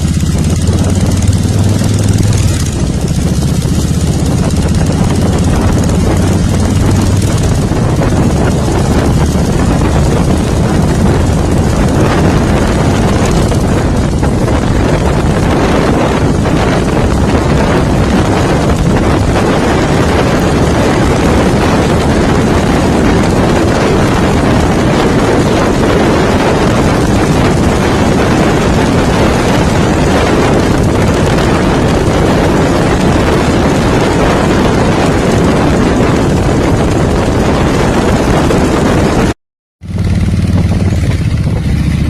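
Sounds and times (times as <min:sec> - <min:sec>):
motorcycle engine running: 0:00.0 - 0:42.0
wind noise on microphone: 0:00.0 - 0:42.0.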